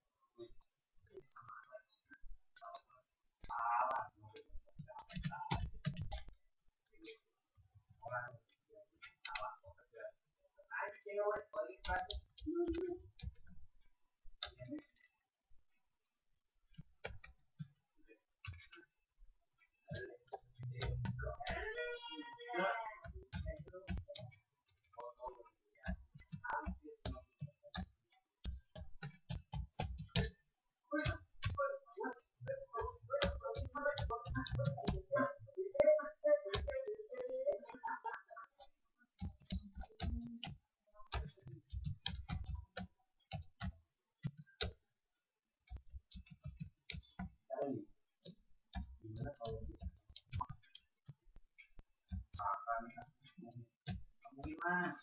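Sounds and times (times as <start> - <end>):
computer mouse and keyboard clicking: 2.6 - 7.2, 8.4 - 9.8, 11.4 - 13.6, 14.4 - 15.2, 16.7 - 17.8, 18.4 - 18.9, 19.8 - 44.8, 45.7 - 55.0.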